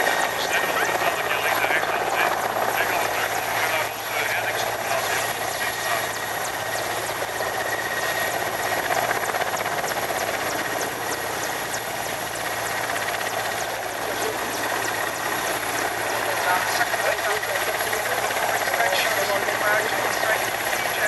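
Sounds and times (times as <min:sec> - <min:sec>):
helicopter drone: 0:00.0 - 0:21.0.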